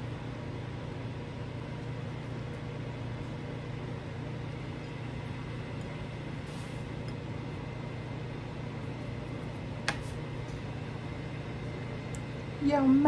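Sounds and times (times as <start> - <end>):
low appliance hum with hiss: 0.0 - 13.0.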